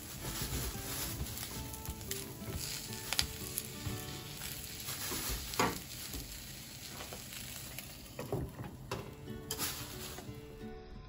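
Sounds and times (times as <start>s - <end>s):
food sizzling in oil: 0.0s - 10.4s.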